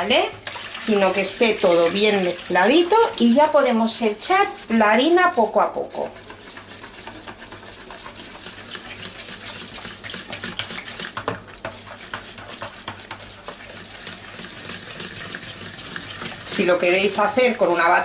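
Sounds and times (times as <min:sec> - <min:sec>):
whisk clicking against bowl: 0:00.0 - 0:18.0
whisk sloshing batter: 0:00.0 - 0:18.0.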